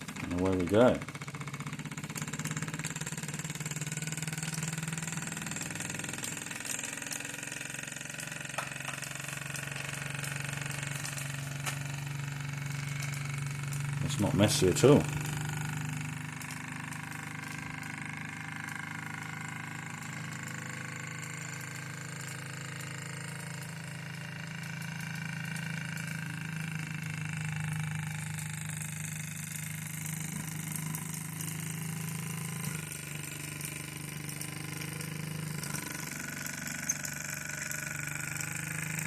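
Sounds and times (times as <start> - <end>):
model steam engine running: 0.0 - 39.0.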